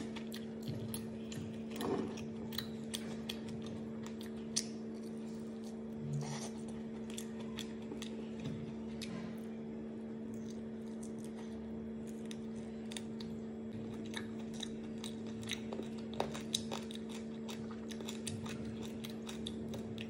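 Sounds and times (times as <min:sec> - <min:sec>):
crunchy chewing: 0:00.0 - 0:20.0
steady low hum: 0:00.0 - 0:20.0.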